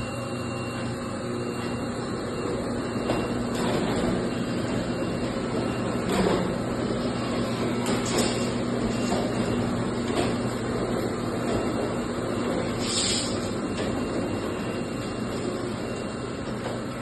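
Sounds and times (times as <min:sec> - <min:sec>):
machine humming and rumbling: 0:00.0 - 0:17.0.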